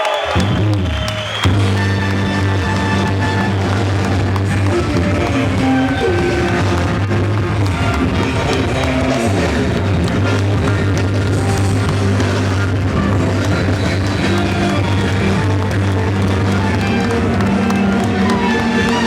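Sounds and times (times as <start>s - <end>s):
funk band playing: 1.4s - 19.0s.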